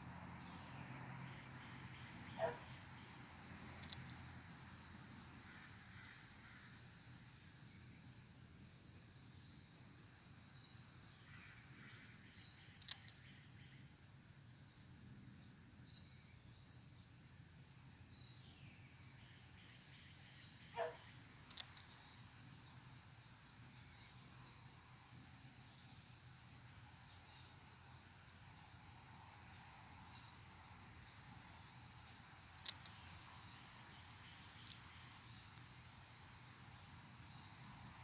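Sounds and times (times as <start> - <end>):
faint high insect hum: 0.0 - 38.0.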